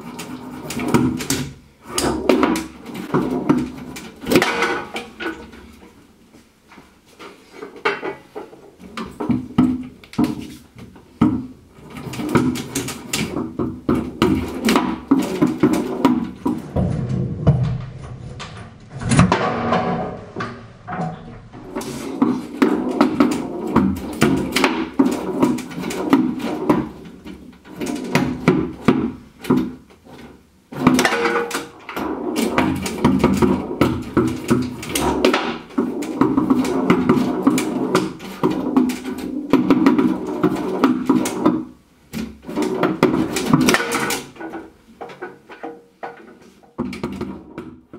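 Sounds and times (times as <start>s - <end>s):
foosball ball and players clacking: 0.0s - 47.9s.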